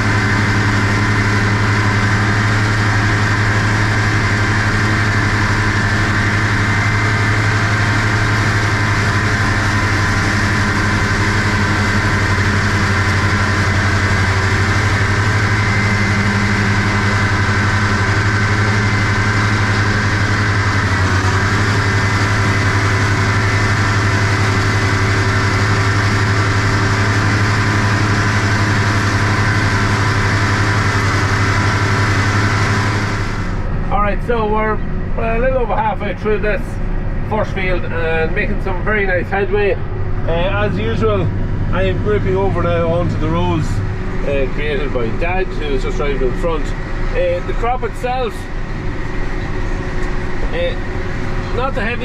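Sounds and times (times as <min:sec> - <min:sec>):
tractor engine under load: 0:00.0 - 0:52.0.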